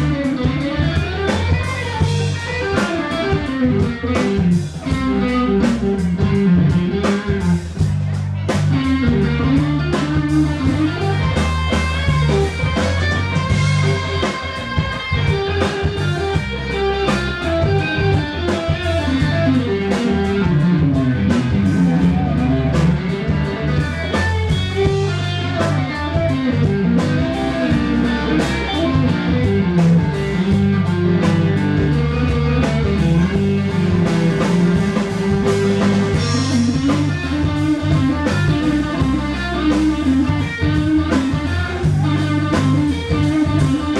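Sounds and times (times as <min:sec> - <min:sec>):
blues-rock band playing: 0:00.0 - 0:43.9
electric guitar lead line: 0:00.0 - 0:43.9.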